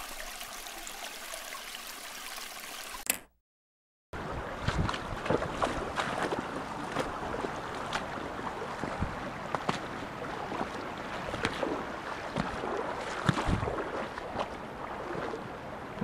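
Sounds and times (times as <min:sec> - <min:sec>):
small stream flowing: 0:00.0 - 0:03.1, 0:04.2 - 0:16.0.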